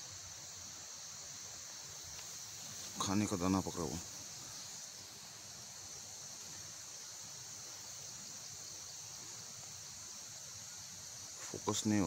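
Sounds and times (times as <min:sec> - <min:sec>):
forest insects chorus: 0:00.0 - 0:12.0.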